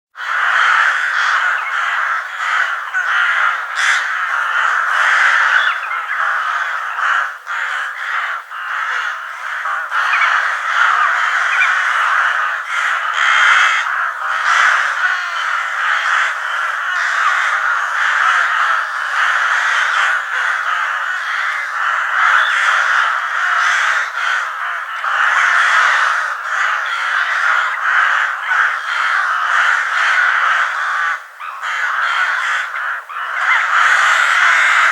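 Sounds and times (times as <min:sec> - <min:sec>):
crows cawing: 0:00.2 - 0:34.9.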